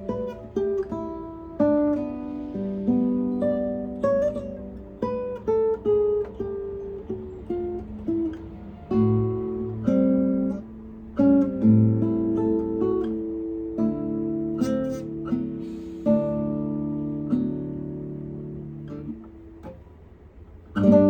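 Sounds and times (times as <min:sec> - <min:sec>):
acoustic guitar plucked notes: 0:00.0 - 0:21.0.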